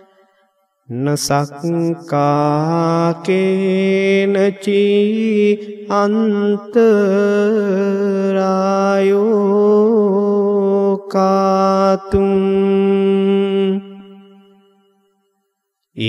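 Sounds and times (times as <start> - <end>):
person chanting: 0.9 - 14.4.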